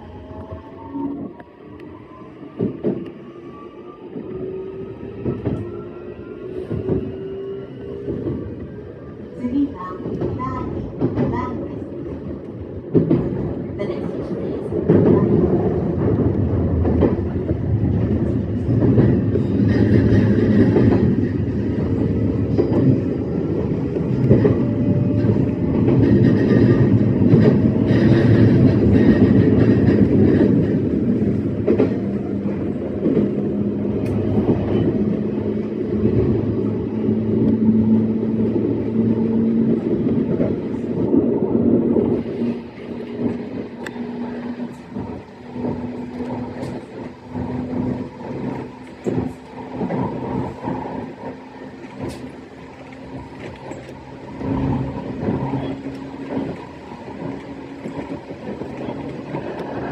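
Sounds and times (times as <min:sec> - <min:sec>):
electric train hum: 0:00.0 - 0:59.9
wheel-on-rail noise: 0:00.0 - 0:59.9.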